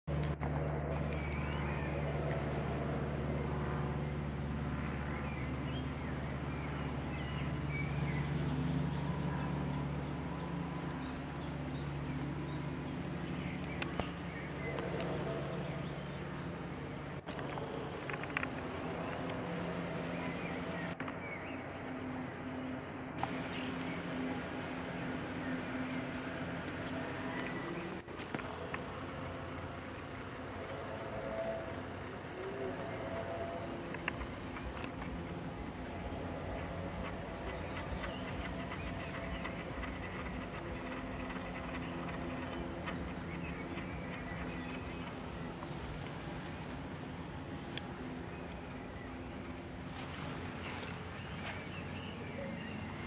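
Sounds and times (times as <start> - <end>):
light aircraft engine droning: 0.0 - 53.0
birds chirping: 4.9 - 53.0.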